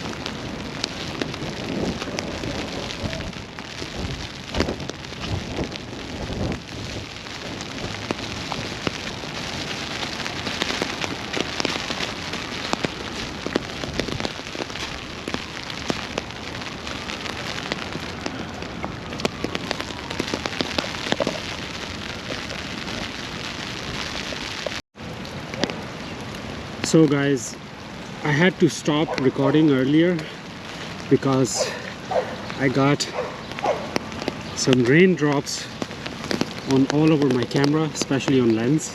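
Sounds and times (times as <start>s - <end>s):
rain drops ticking: 0.0s - 38.9s.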